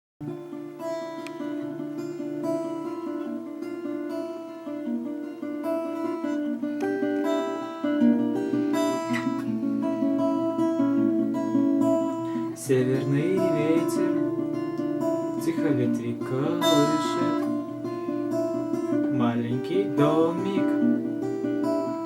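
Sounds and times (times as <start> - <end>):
plucked melody: 0.2 - 22.0.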